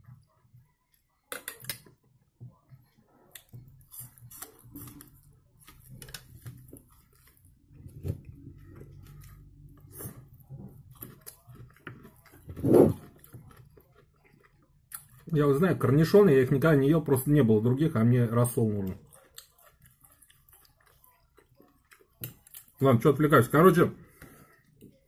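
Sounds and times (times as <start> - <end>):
man chewing food: 0.0 - 16.6, 18.5 - 22.9, 24.0 - 25.0.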